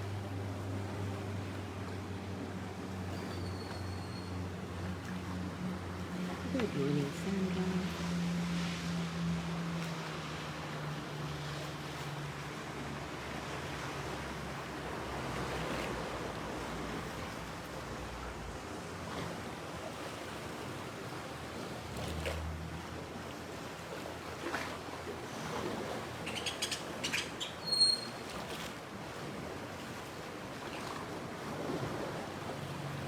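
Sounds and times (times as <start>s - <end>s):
ocean surf washing ashore: 4.6s - 33.0s.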